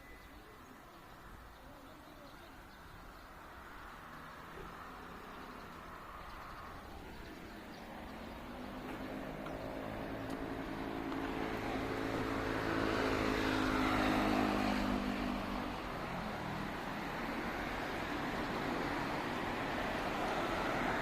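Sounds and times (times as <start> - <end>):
vehicle passing by: 3.6 - 21.0.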